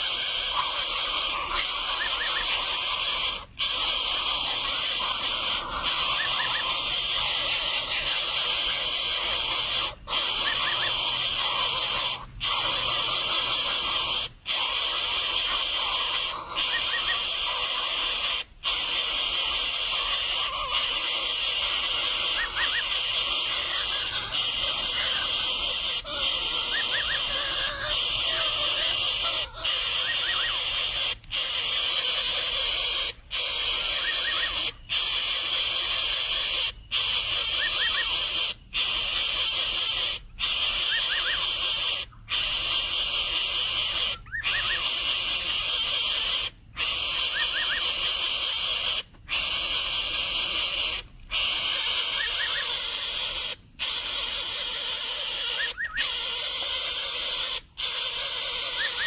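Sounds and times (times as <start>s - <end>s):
nestling harsh hissing begging call: 0.0s - 59.0s.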